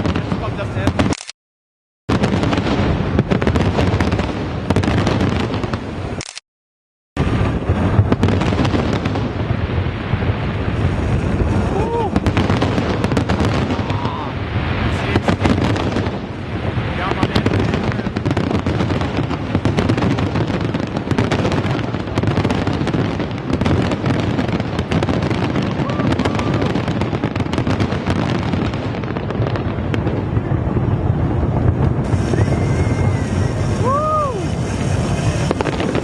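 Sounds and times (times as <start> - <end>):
fireworks bursting and crackling: 0.0 - 1.4, 2.1 - 6.4, 7.2 - 36.0.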